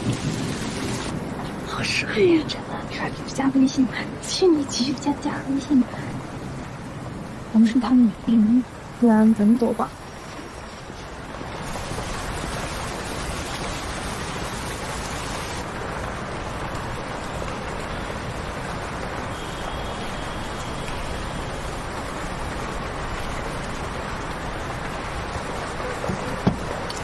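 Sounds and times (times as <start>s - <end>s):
steady rushing noise: 0.0s - 8.0s, 10.0s - 27.0s.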